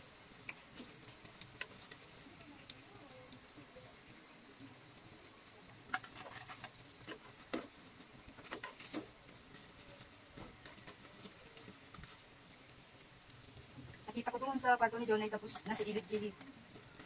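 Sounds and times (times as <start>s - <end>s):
sharp crackles and clicks: 0.0s - 3.7s, 4.8s - 17.0s
meat sizzling in oil: 0.0s - 17.0s.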